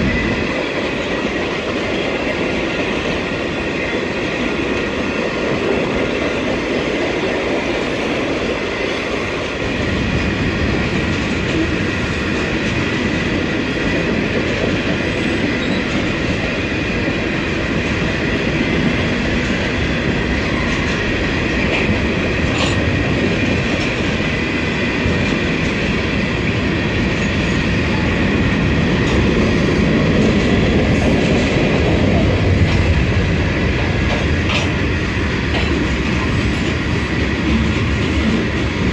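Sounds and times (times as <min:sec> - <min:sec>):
freight train cars rolling past: 0:00.0 - 0:38.9.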